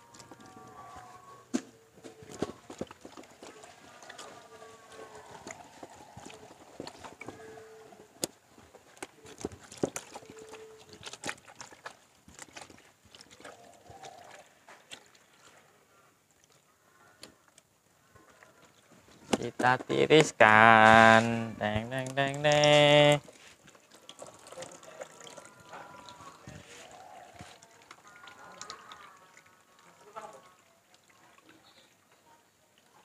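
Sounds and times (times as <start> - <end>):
cloth splashing in dye tub: 0.0 - 16.7, 18.2 - 32.1.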